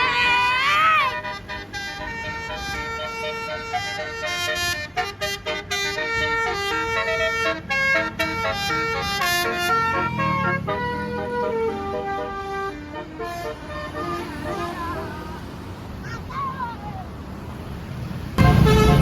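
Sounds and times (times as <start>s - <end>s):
multi-note air horn melody: 0.0s - 15.4s, 18.4s - 19.0s.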